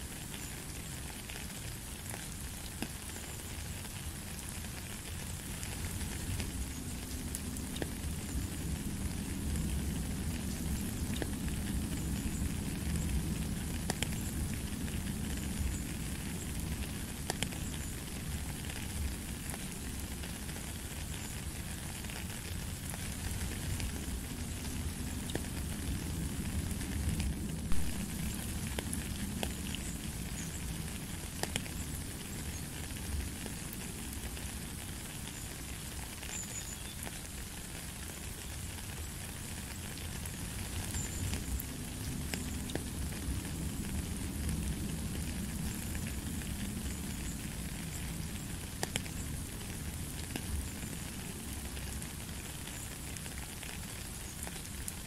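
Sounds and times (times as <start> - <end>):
rain on wet gravel: 0.0 - 55.0.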